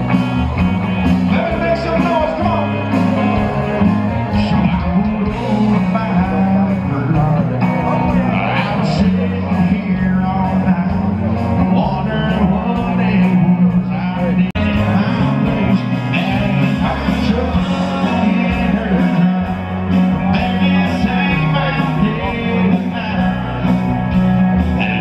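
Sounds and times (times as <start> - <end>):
rock music with singing: 0.0 - 25.0.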